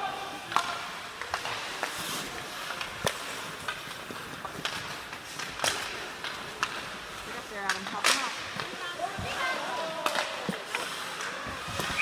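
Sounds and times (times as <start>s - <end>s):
hockey sticks clacking puck: 0.0s - 12.0s
skates hissing on ice: 0.3s - 7.6s, 9.2s - 12.0s.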